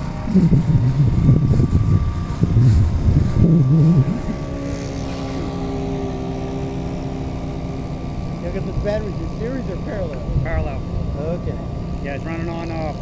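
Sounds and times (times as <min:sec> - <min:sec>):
low irregular rumble: 0:00.0 - 0:13.0
model airplane engine drone: 0:00.0 - 0:13.0.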